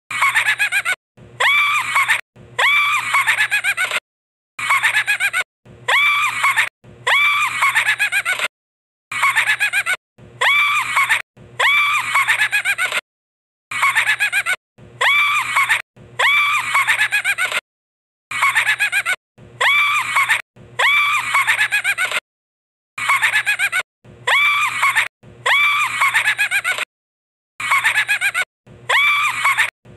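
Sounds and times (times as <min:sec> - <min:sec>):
high-pitched laugh effect: 0:00.1 - 0:04.0, 0:04.6 - 0:08.5, 0:09.1 - 0:13.0, 0:13.7 - 0:17.6, 0:18.3 - 0:22.2, 0:23.0 - 0:26.9, 0:27.6 - 0:29.7.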